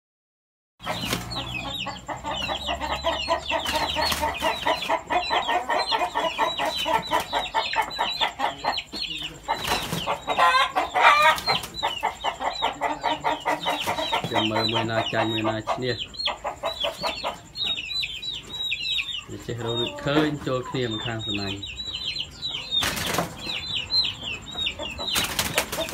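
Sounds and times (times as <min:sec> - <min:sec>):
chickens clucking and chirping: 0:00.8 - 0:25.9.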